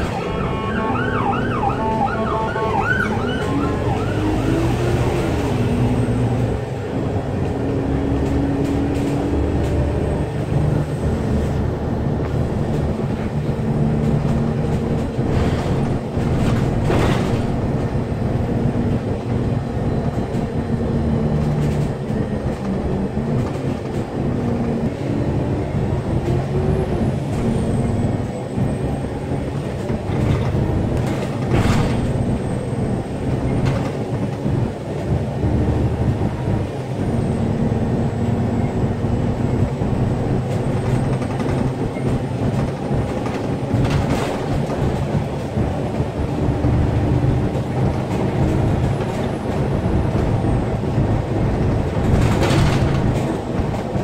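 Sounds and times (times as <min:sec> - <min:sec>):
vehicle rumble from inside: 0:00.0 - 0:54.0.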